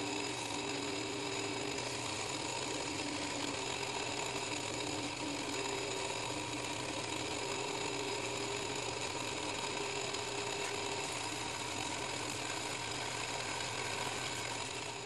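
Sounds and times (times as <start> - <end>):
electric lathe motor running: 0.0 - 15.0.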